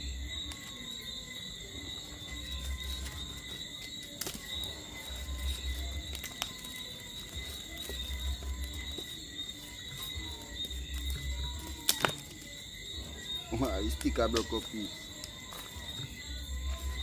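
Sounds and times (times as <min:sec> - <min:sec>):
charcoal fire popping: 0:00.0 - 0:17.0
night insects chirring: 0:00.0 - 0:17.0.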